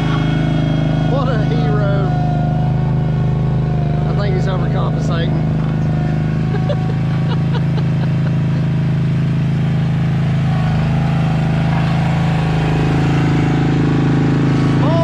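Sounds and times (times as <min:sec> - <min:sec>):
road roller engine droning: 0:00.0 - 0:15.0
roller compacting gravel: 0:00.0 - 0:15.0.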